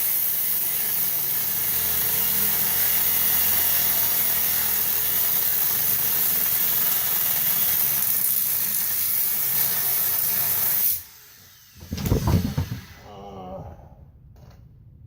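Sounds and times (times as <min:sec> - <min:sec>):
angle grinder grinding metal: 0:00.0 - 0:13.0.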